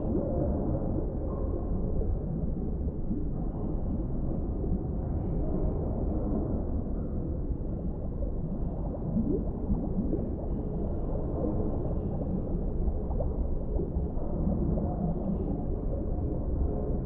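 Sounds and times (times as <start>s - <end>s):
bubbling gurgles: 0.0s - 17.0s
muffled underwater rumble: 0.0s - 17.0s.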